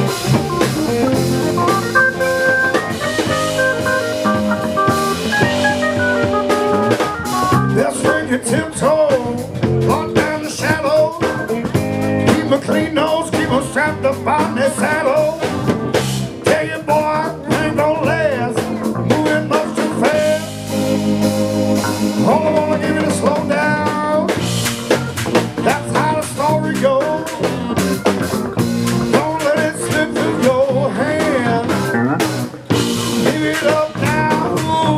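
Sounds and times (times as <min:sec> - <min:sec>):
blues guitar bending notes: 0:00.0 - 0:34.9
drum kit steady beat: 0:00.0 - 0:34.9.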